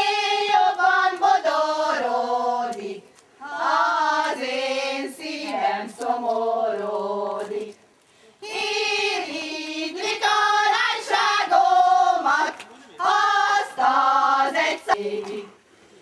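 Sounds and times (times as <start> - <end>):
women singing folk song: 0.0 - 7.8, 8.4 - 15.6.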